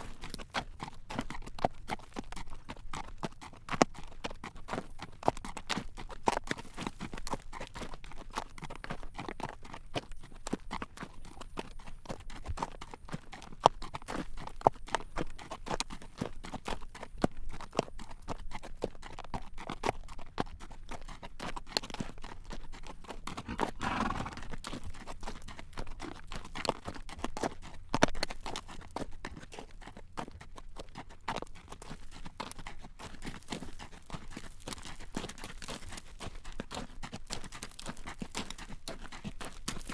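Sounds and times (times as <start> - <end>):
horse hooves clip-clopping on road: 0.0 - 39.9.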